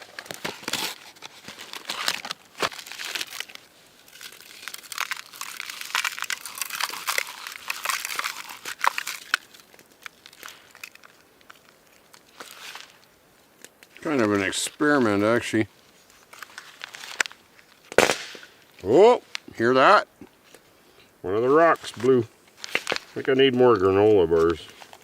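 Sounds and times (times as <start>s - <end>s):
wrappers crinkling: 0.0s - 25.0s.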